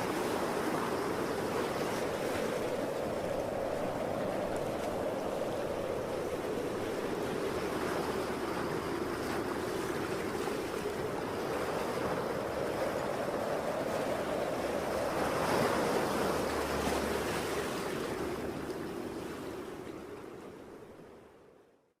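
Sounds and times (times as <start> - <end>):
strong wind blowing: 0.0 - 20.8
ocean waves breaking: 0.0 - 21.0.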